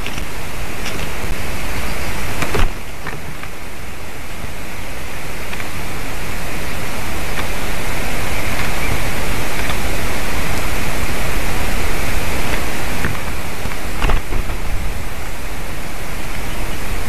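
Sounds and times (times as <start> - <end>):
wind rushing through pine treetops: 0.0 - 17.0.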